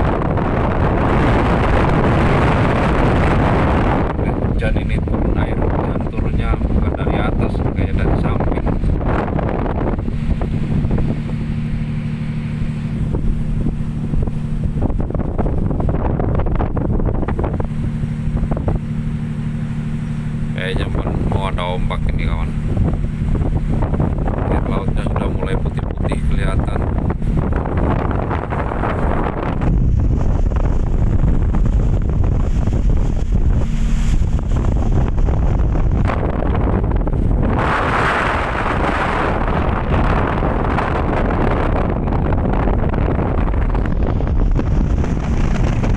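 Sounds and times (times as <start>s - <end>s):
rough sea: 0.0s - 45.9s
steady low hum: 0.0s - 45.9s
wind buffeting microphone: 0.0s - 45.9s.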